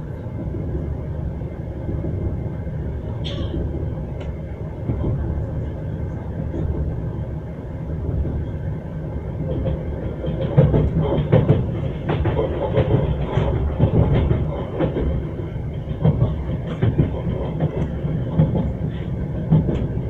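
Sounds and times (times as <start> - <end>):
low rumble of moving carriage: 0.0 - 20.0
train wheels clattering on rails: 0.0 - 20.0.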